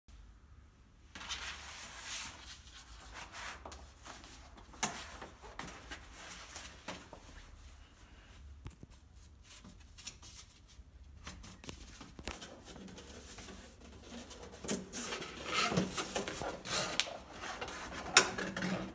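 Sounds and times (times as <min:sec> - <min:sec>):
cardboard rustling and scraping: 0:01.2 - 0:07.8, 0:09.2 - 0:18.9.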